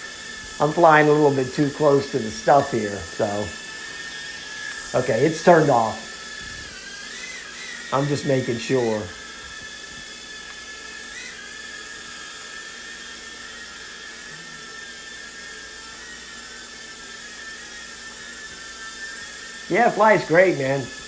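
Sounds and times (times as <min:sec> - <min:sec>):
quadcopter motors whirring: 0:00.0 - 0:21.0.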